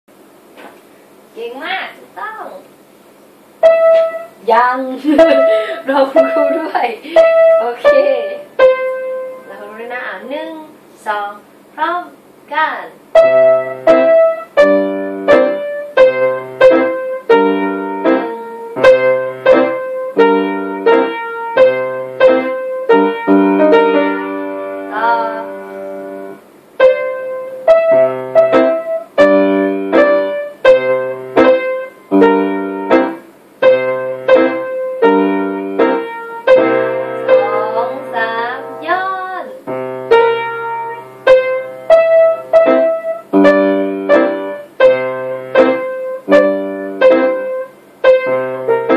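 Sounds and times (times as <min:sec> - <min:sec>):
piano melody with lower chords: 0:03.6 - 0:10.0, 0:13.1 - 0:48.9.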